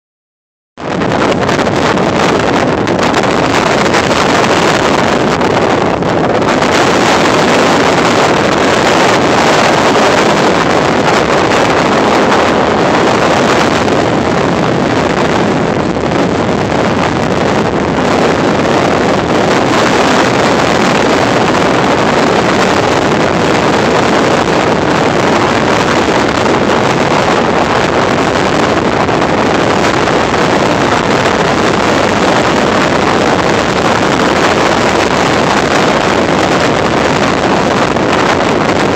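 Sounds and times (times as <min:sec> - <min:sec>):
wind on microphone: 0:00.8 - 0:38.9.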